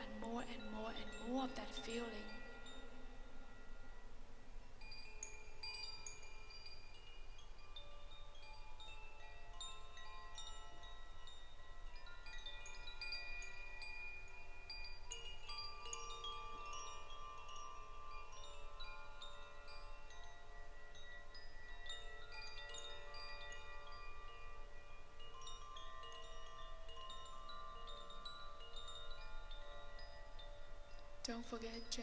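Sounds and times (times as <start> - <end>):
chimes ringing: 0.0 - 32.0.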